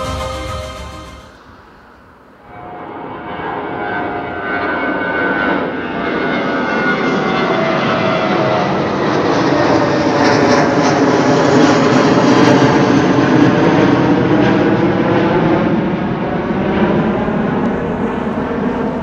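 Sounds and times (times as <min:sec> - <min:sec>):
jet airliner engine roar: 0:01.3 - 0:19.0.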